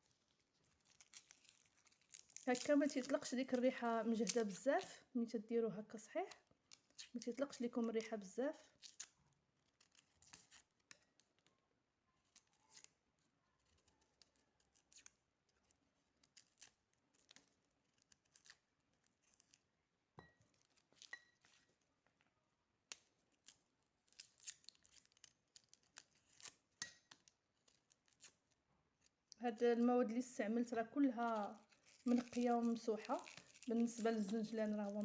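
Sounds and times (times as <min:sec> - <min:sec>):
hands peeling garlic cloves: 0:00.0 - 0:05.0, 0:06.1 - 0:11.5, 0:12.3 - 0:19.6, 0:22.8 - 0:30.3, 0:30.9 - 0:35.0.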